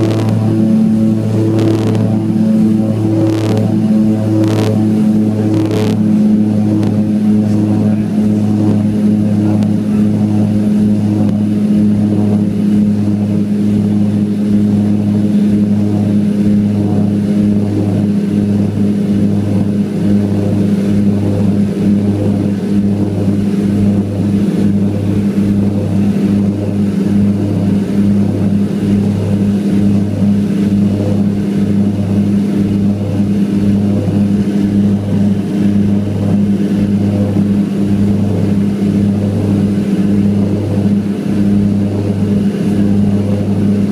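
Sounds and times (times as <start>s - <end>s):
propeller engine throbbing drone: 0.0s - 43.9s.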